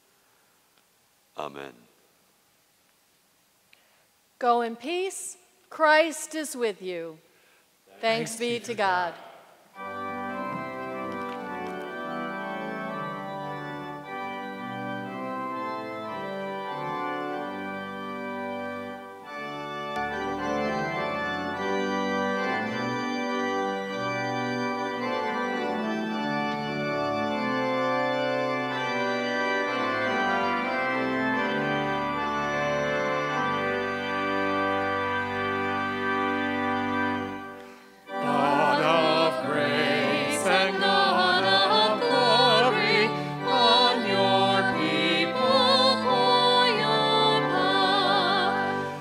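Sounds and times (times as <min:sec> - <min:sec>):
church organ playing chords: 0:09.7 - 0:49.0.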